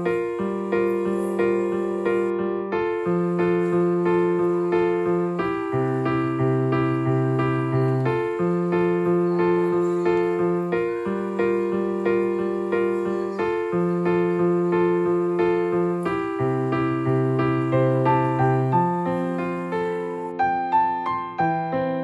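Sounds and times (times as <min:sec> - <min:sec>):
electric piano chords: 0:00.0 - 0:22.0.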